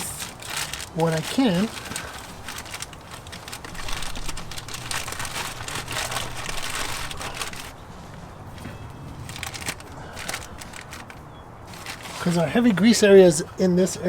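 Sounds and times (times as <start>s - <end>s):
protective cover crinkling: 0.0s - 13.0s.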